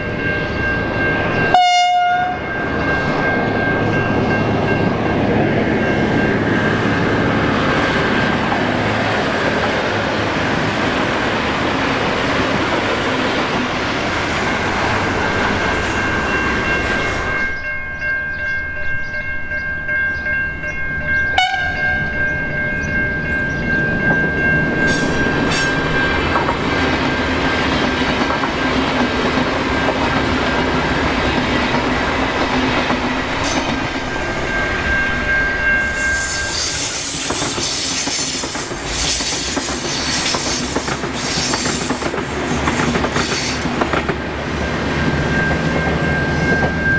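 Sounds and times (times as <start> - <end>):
train wheel and track noise: 0.0 - 46.9.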